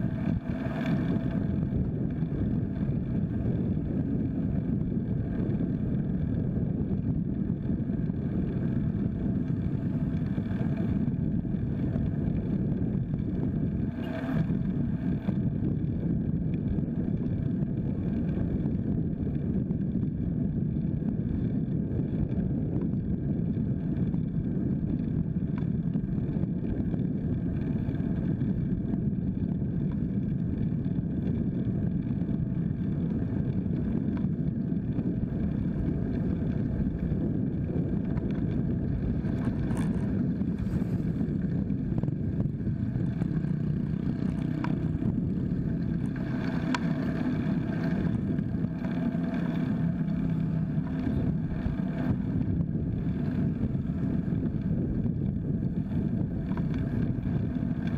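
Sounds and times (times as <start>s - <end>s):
road rumble: 0.0s - 57.9s
wind buffeting microphone: 0.0s - 57.9s.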